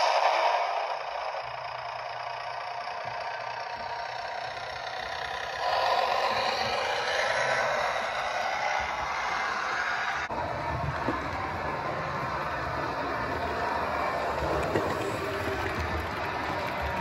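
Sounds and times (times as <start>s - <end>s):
model train whirring rumble: 0.0s - 17.0s.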